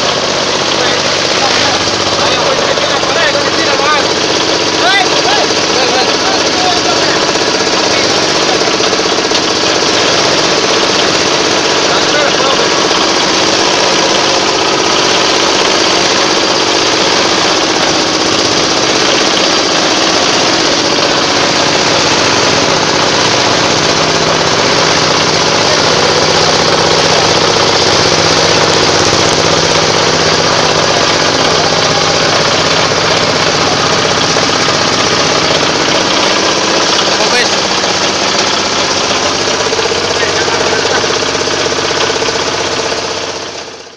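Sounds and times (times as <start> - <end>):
compost shredder machine running: 0.0 - 43.9.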